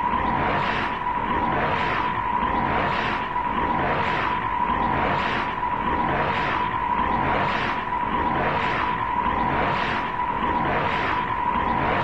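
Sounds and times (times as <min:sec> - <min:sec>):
electronic whine: 0:00.0 - 0:12.0.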